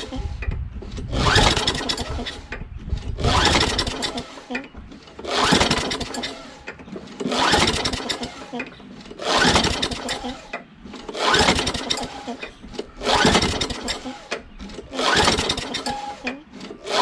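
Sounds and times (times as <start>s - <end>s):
engine cranking not starting: 0.0s - 17.0s
mower pull-starter yanked: 0.0s - 17.0s.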